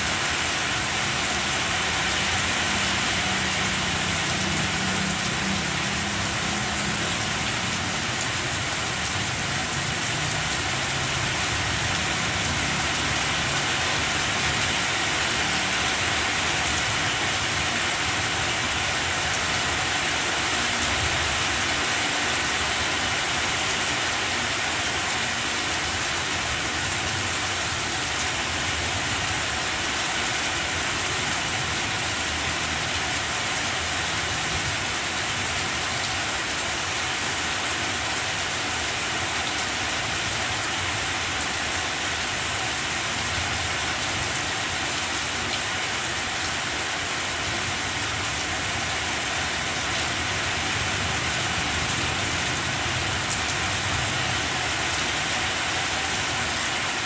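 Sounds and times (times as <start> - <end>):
heavy rain on plants: 0.0 - 57.0.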